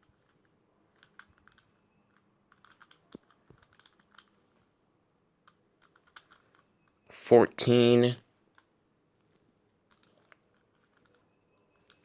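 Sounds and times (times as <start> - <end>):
plastic puzzle cube clicking: 0.0 - 4.4, 5.4 - 7.0, 8.4 - 12.0.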